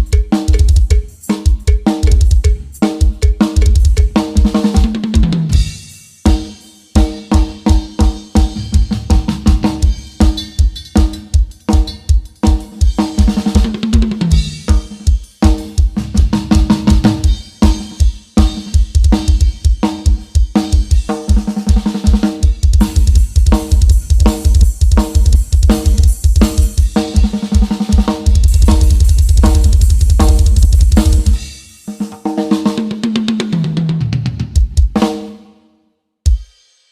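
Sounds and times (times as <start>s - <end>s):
drum-heavy music with deep bass: 0.0s - 32.3s, 33.0s - 35.1s, 36.3s - 36.7s.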